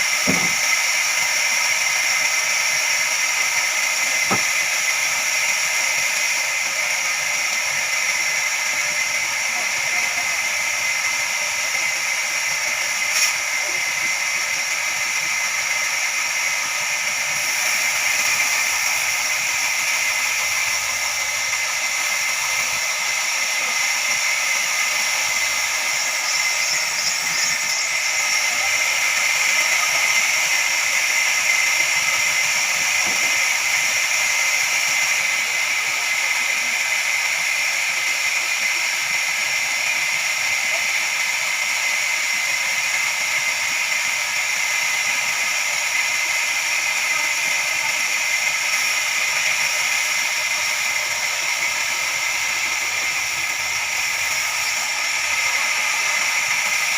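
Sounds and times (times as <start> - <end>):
band saw hissing: 0.0 - 56.9.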